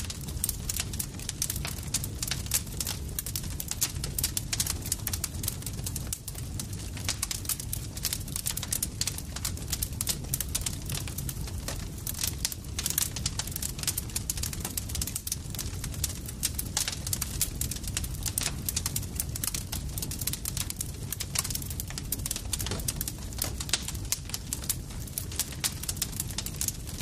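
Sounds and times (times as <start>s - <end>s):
campfire crackling: 0.0s - 27.0s.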